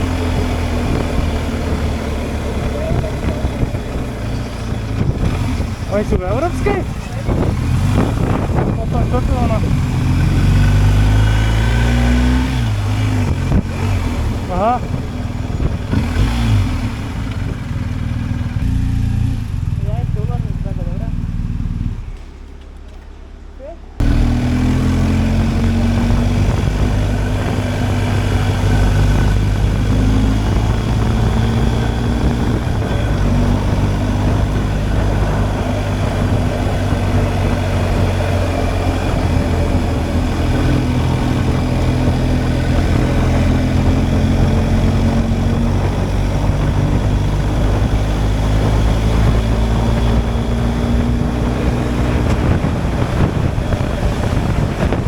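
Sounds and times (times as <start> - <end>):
wind rushing: 0.0 - 18.7, 24.0 - 55.0
motorcycle engine running: 0.0 - 23.0, 23.9 - 55.0.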